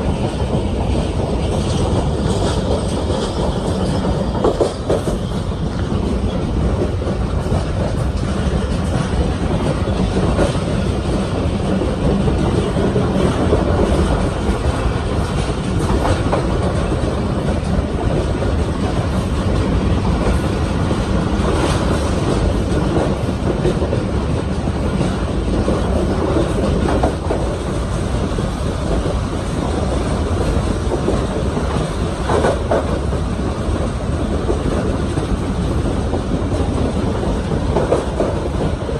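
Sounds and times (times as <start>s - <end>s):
clacks over rail joints: 0.0s - 38.9s
train wheels rumbling: 0.0s - 38.9s.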